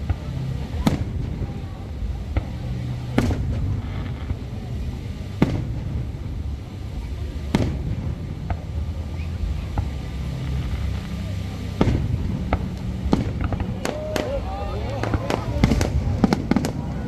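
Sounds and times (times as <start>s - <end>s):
faint firework pops: 0.0s - 17.0s
firework shells bursting: 0.0s - 17.0s
steady low rumble: 0.0s - 17.0s.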